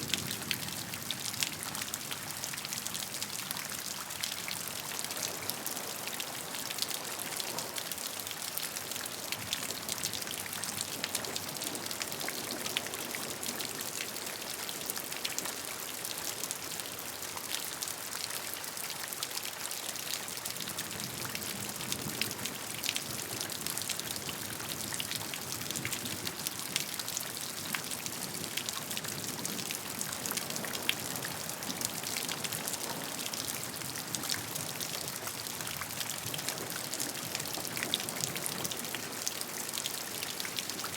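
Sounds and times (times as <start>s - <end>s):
raindrops pattering on a surface: 0.0s - 40.9s.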